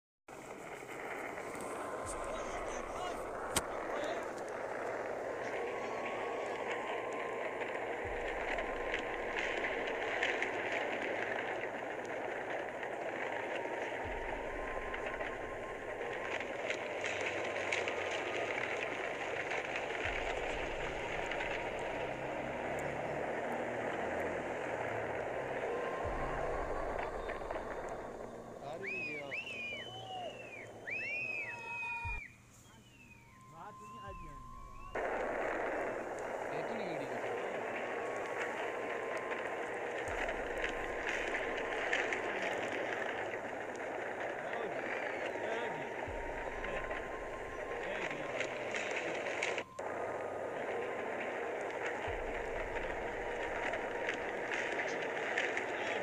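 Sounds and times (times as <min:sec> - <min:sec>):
avalanche rushing rumble: 0:00.3 - 0:32.2, 0:32.9 - 0:56.0
faint crackles: 0:00.3 - 0:56.0.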